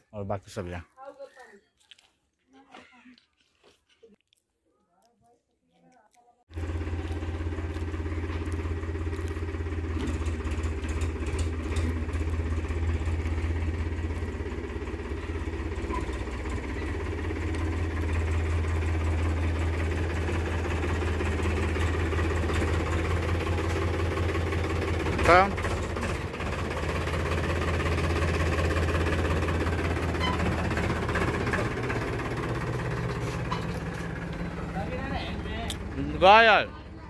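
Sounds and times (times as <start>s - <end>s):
tractor diesel engine running: 6.5s - 37.0s.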